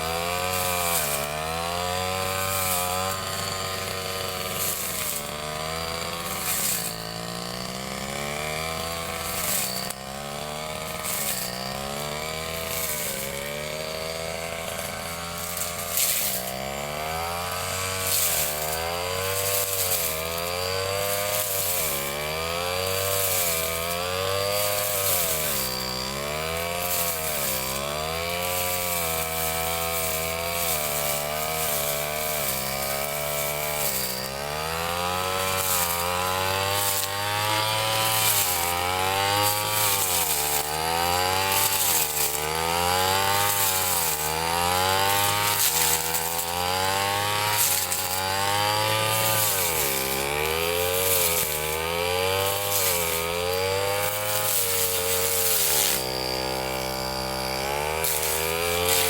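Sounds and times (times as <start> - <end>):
brush cutter engine running: 0.0 - 59.0.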